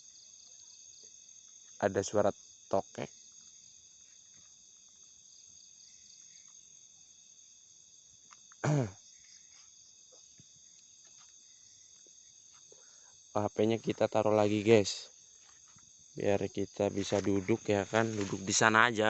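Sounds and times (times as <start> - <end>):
crickets and night insects chirping: 0.0 - 19.0.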